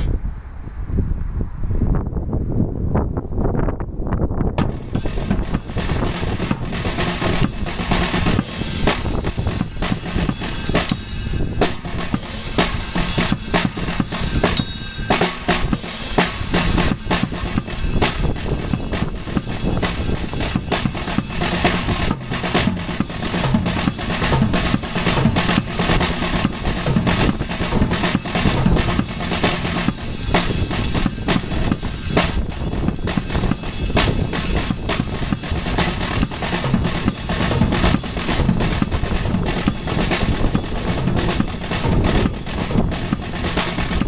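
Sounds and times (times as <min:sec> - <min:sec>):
drum kit solo: 0:04.6 - 0:44.0.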